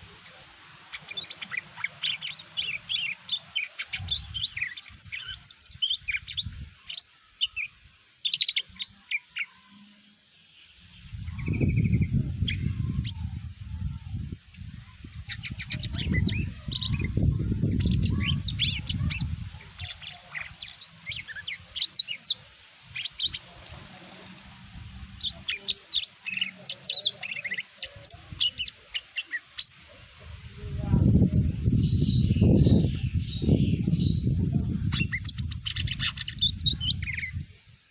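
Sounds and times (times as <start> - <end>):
bird singing chirps and trills: 0.9 - 10.1, 10.9 - 29.8, 31.0 - 37.5.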